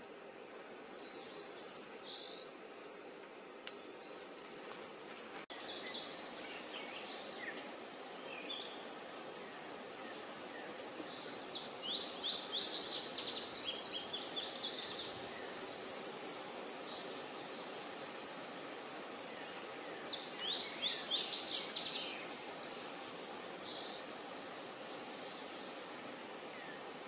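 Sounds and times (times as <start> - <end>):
steady background noise: 0.0 - 27.0.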